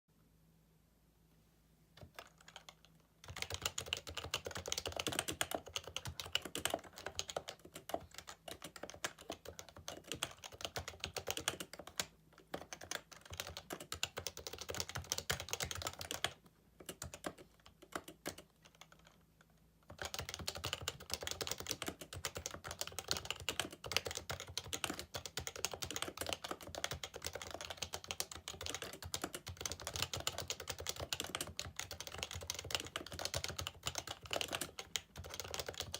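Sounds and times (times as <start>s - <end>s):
keyboard typing: 2.0s - 35.9s.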